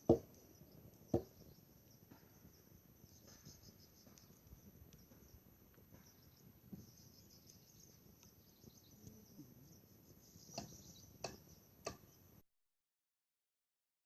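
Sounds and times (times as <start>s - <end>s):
crickets chirring: 0.0s - 12.4s.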